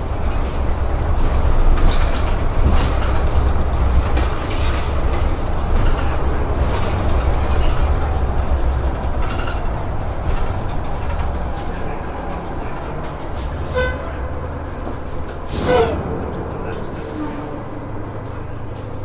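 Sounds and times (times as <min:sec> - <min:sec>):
bus body rattles and clicks: 0:00.0 - 0:19.0
bus rumbling inside cabin: 0:00.0 - 0:19.0.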